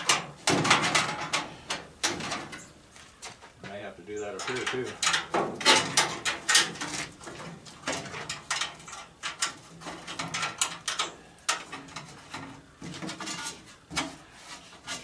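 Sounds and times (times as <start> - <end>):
hand tools on sheet metal: 0.0 - 2.7, 4.2 - 15.0.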